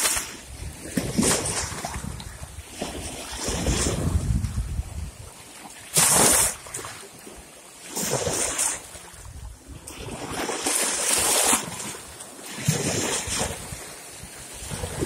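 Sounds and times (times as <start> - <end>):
small waves splashing over rocks: 0.0 - 15.0.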